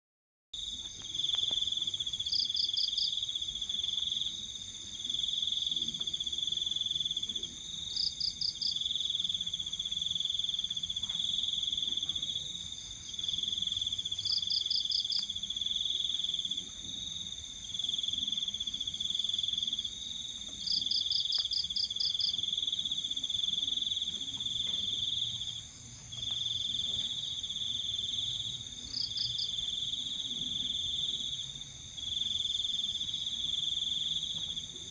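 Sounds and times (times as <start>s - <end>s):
loud steady cricket trill: 0.6s - 34.9s.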